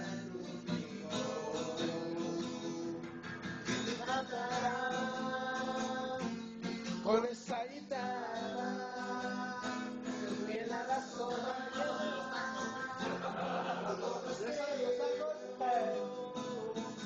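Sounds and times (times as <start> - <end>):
acoustic guitar strumming: 0.0 - 17.0
person singing: 0.0 - 17.0.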